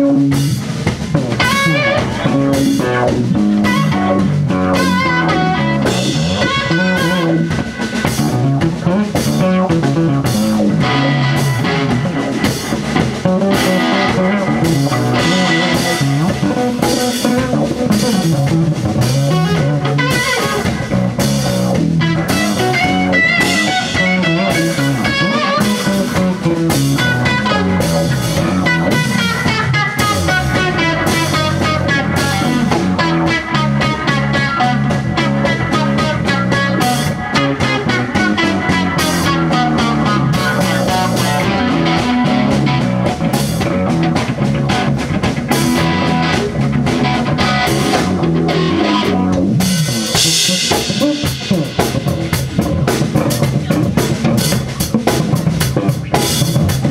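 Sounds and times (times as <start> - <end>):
bass guitar: 0.0 - 56.9
drum kit: 0.0 - 56.9
electric guitar: 0.0 - 56.9.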